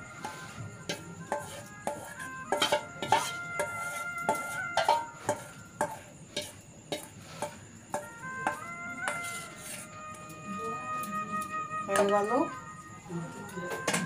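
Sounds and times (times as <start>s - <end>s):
percussion beat: 0.0s - 10.3s, 10.9s - 12.6s, 13.4s - 14.0s.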